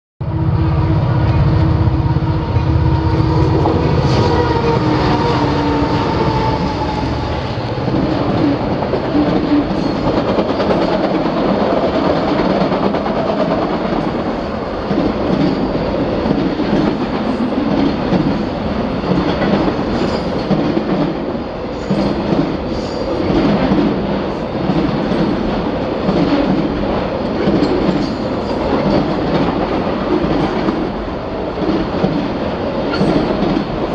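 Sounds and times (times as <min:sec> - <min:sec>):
diesel locomotive engines: 0:00.2 - 0:33.9
train wheels clattering: 0:03.3 - 0:24.0, 0:24.6 - 0:33.9.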